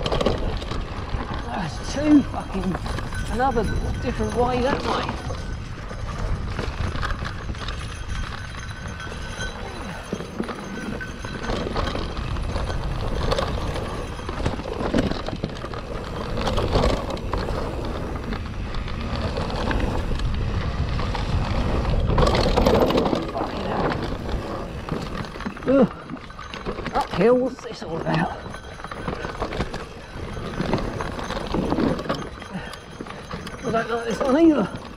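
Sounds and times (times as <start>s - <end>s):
bike chain and frame rattling: 0.0s - 34.9s
wind and tyres rumbling: 0.0s - 34.9s.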